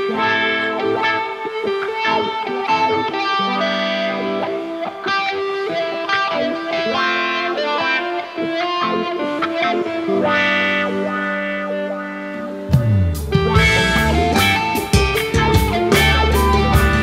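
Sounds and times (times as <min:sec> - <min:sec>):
guitar instrumental: 0:00.0 - 0:17.0.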